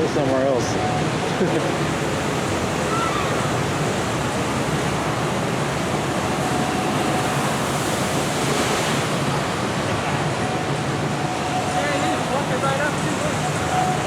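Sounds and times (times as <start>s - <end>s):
churning water rushing: 0.0s - 14.0s.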